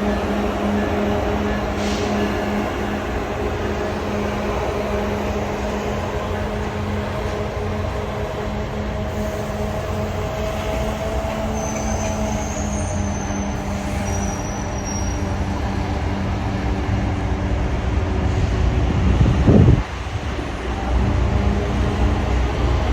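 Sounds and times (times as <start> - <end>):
train humming and rumbling: 0.0 - 22.9.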